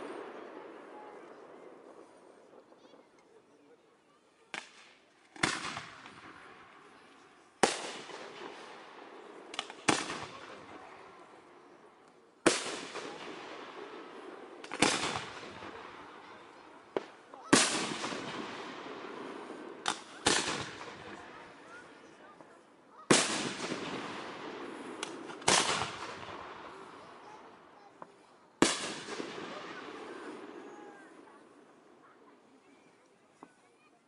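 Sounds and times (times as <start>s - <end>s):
crackle and echo: 0.0s - 34.0s.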